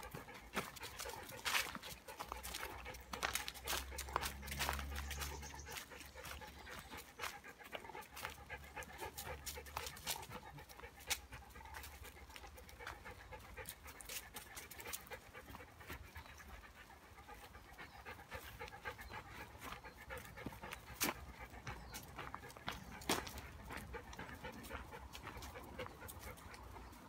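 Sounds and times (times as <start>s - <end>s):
dog panting: 0.0s - 27.0s
footsteps crunching on a path: 0.0s - 27.0s.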